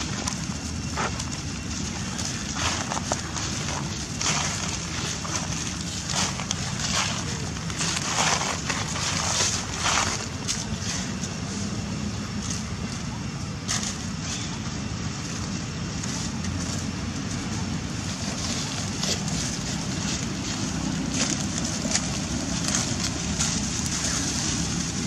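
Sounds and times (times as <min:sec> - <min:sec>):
dry leaves crunching underfoot: 0:00.0 - 0:12.7, 0:15.1 - 0:25.0
steady low rumble: 0:00.0 - 0:25.0.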